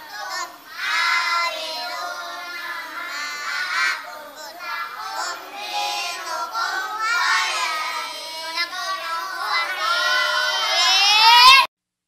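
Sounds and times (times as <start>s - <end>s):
boys chanting in unison: 0.0s - 11.7s.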